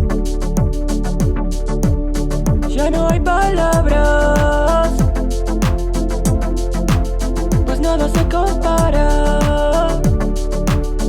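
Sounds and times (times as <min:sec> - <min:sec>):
deep kick drums: 0:00.0 - 0:11.0.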